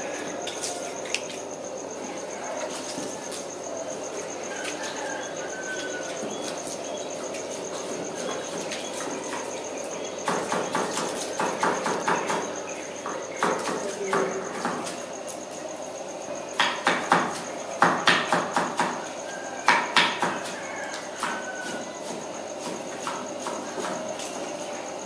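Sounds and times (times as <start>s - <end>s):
pulsed insect trill: 0.0s - 25.0s.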